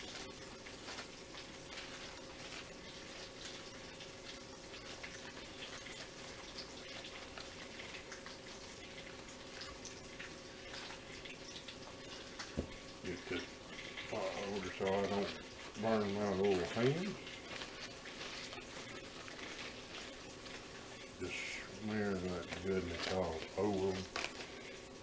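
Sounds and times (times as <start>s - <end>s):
bacon sizzling in a frying pan: 0.0s - 25.0s.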